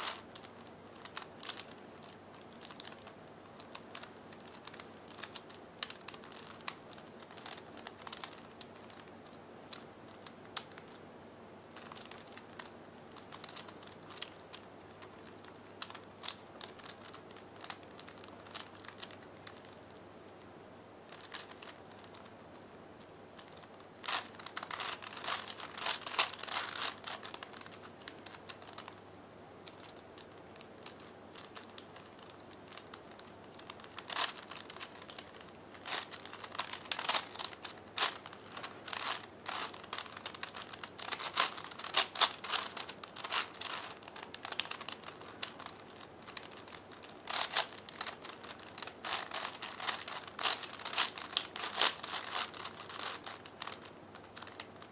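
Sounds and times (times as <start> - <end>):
puzzle cube clicking: 0.0 - 11.0, 11.8 - 19.7, 23.4 - 29.0, 29.6 - 54.9.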